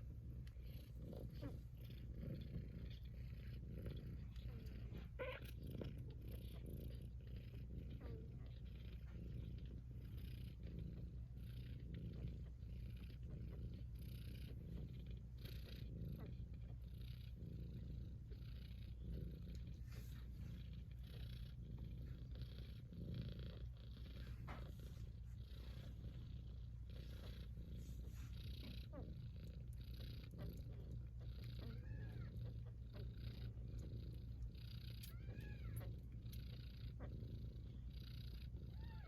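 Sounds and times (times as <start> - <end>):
cat purring: 0.0 - 39.0.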